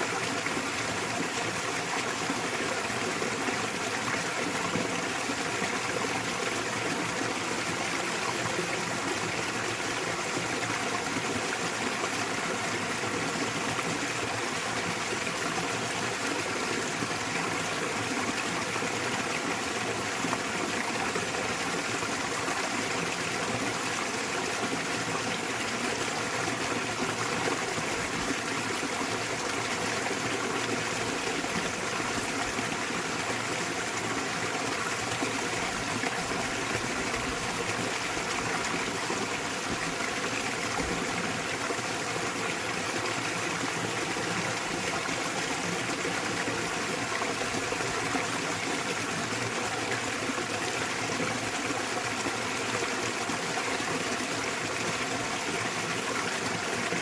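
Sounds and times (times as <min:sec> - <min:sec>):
small waterfall splashing: 0:00.0 - 0:57.0.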